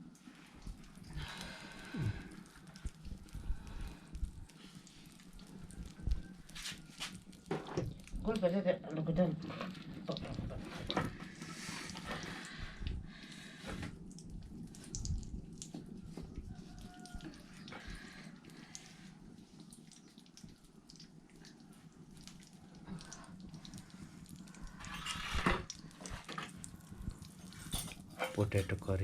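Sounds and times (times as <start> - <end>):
water sloshing and dripping: 0.0 - 28.7.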